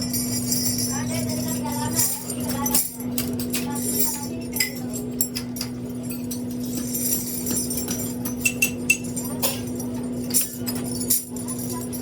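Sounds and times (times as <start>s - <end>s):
metallic clinks and knocks: 0.0s - 12.0s
steady machine hum: 0.0s - 12.0s.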